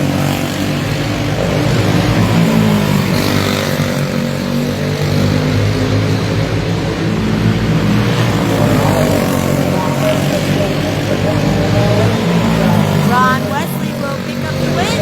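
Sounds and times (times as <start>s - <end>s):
go-kart engines droning and revving: 0.0s - 15.0s.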